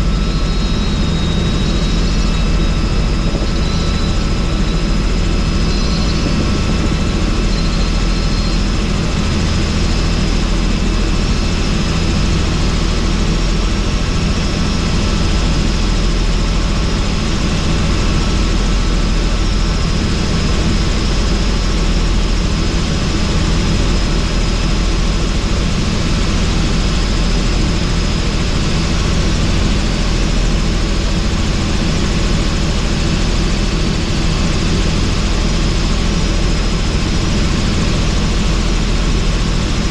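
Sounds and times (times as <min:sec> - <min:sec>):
helicopter rotor and engine drone: 0:00.0 - 0:39.9
rushing wind: 0:00.0 - 0:39.9.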